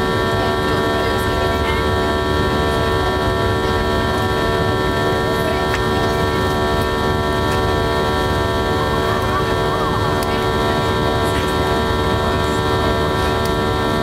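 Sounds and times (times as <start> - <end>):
airplane cabin engine noise: 0.0 - 14.0
high constant engine tones: 0.0 - 14.0.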